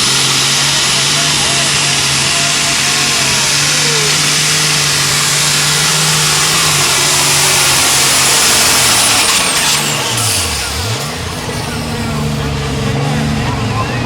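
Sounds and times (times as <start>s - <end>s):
tractor engine droning with whine: 0.0s - 14.0s.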